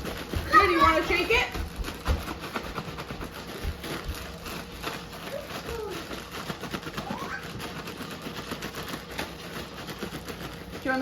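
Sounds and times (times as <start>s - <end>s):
cereal rattling in shaken bag: 0.0s - 11.0s.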